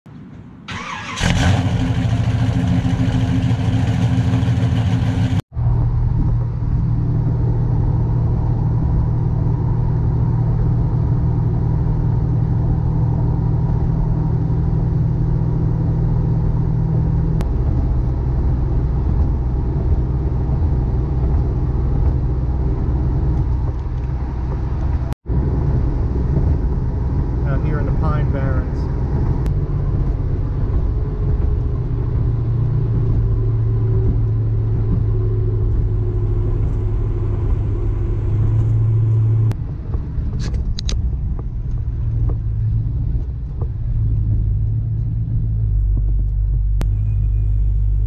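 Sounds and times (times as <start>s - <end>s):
car engine running: 0.7s - 48.0s
car engine from inside cabin: 1.0s - 48.0s.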